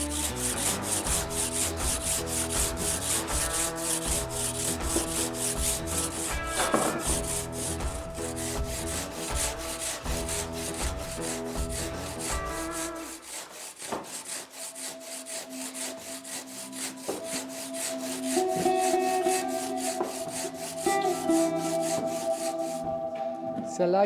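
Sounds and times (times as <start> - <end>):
handsaw cutting stone: 0.0 - 22.8
background music: 0.0 - 24.0.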